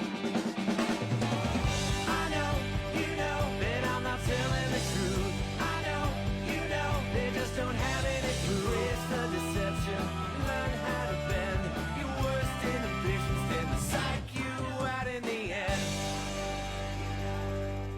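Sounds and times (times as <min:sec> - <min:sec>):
drums: 0:00.0 - 0:17.9
bass line: 0:01.0 - 0:14.3, 0:15.7 - 0:17.9.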